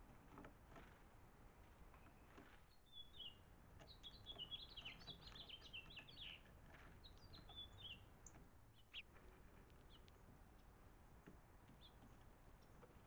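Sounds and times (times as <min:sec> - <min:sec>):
songbirds chirping faintly: 0:00.0 - 0:13.0.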